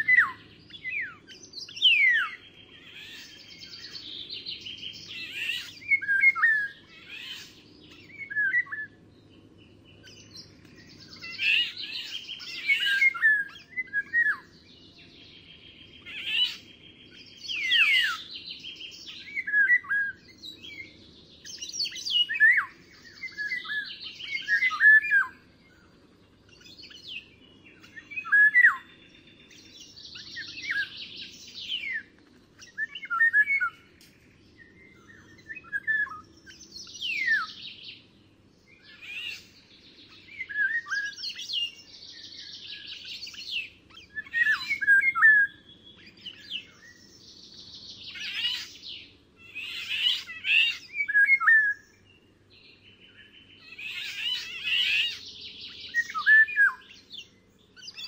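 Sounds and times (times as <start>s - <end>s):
songbirds chirping and whistling: 0.0s - 58.0s.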